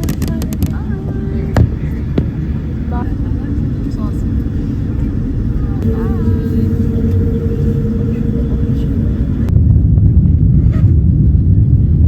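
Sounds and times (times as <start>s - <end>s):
steady cabin hum: 0.0s - 9.8s
jet engine rumble: 0.0s - 12.0s.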